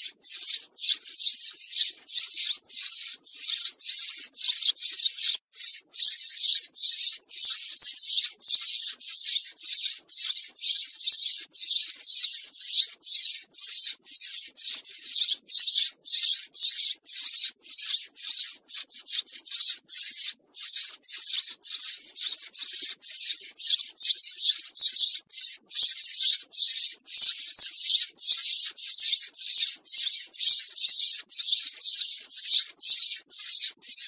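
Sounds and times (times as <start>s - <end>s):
sparrows chirping: 0.0s - 34.0s.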